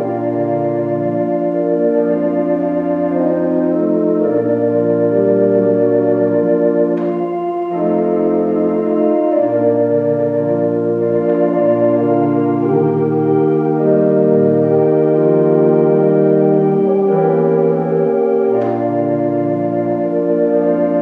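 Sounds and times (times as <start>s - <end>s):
church organ chords: 0.0s - 21.0s.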